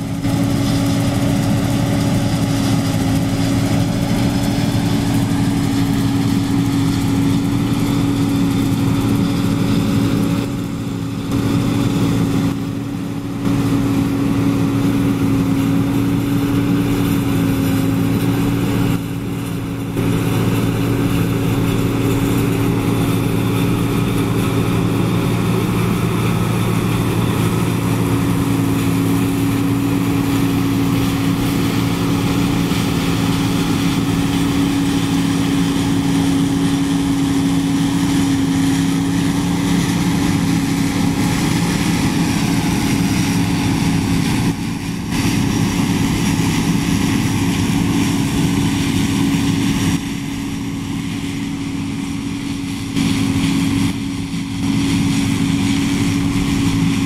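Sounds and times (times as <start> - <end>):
combine harvester droning: 0.0 - 57.0.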